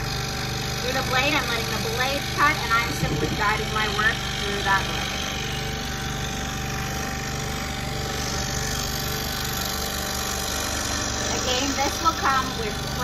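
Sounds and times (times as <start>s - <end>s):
scroll saw cutting wood: 0.0s - 13.0s.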